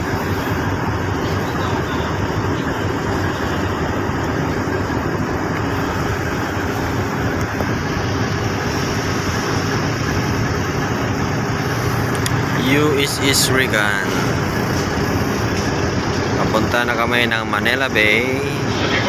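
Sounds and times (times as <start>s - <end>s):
boat engine humming: 0.0s - 19.0s
water rushing: 0.0s - 19.0s
wind: 0.0s - 19.0s.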